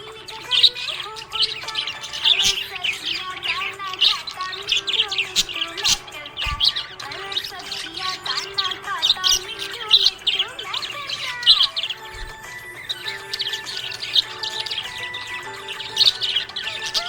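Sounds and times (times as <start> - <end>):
budgerigar chirping and warbling: 0.0 - 17.0.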